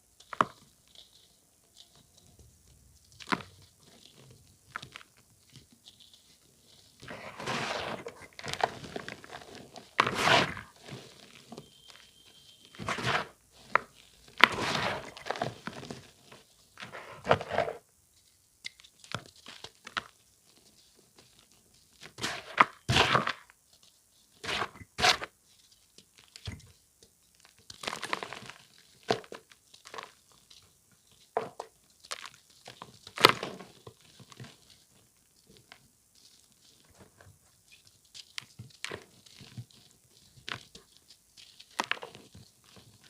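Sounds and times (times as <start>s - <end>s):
chalk crunching and crumbling: 3.0s - 43.0s.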